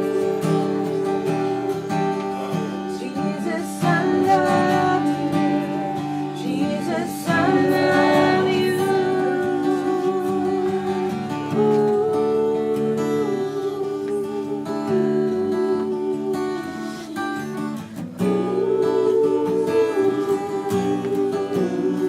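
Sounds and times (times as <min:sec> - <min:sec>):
acoustic guitar strummed: 0:00.0 - 0:22.0
held chords: 0:00.0 - 0:22.0
person singing wordlessly: 0:00.0 - 0:22.0.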